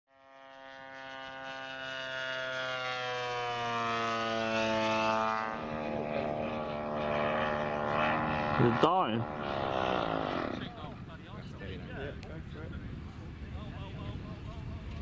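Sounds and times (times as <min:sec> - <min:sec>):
model plane droning past: 0:00.1 - 0:15.0.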